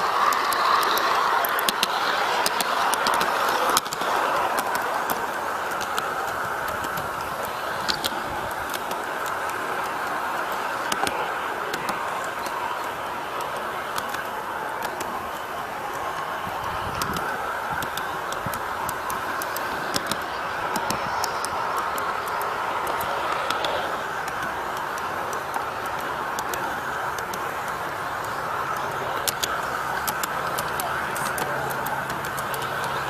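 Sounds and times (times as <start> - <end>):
model train whirring: 0.0 - 33.0
sharp track clicks: 0.0 - 33.0.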